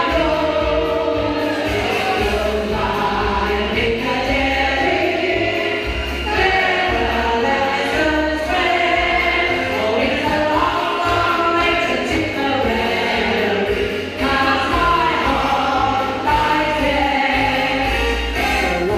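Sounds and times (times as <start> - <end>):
choir singing in harmony: 0.0 - 18.9
low accompaniment: 0.0 - 18.9.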